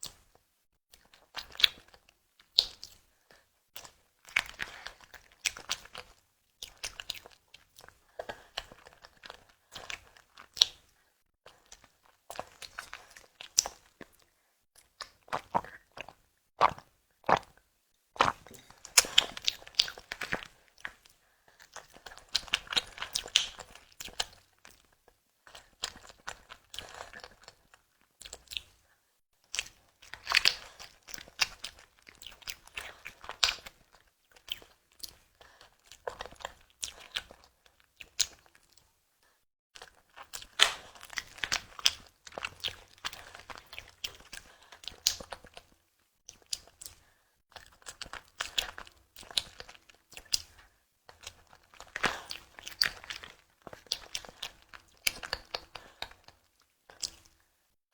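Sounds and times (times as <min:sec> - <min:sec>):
wet chewing clicks and smacks: 0:00.0 - 0:39.0, 0:39.8 - 0:57.5.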